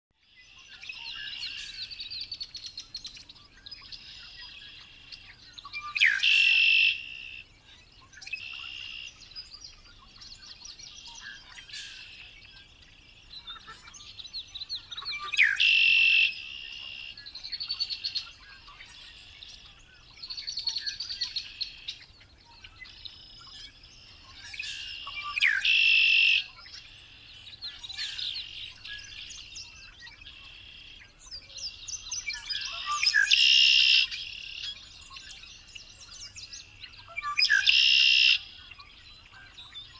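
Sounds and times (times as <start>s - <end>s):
soft bird calls and chatter: 0.1s - 39.9s
blackbird song with buzzy trill: 0.2s - 39.9s.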